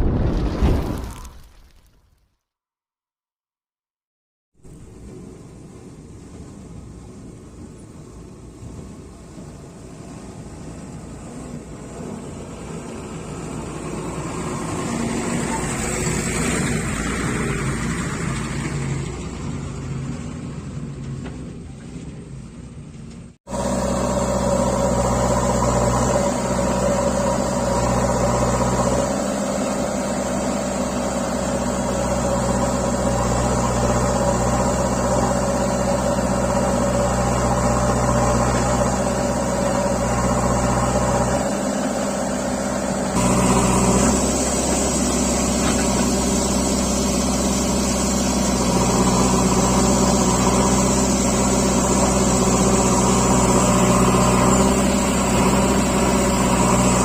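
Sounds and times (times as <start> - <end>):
heavy diesel engine running: 4.6 - 57.0.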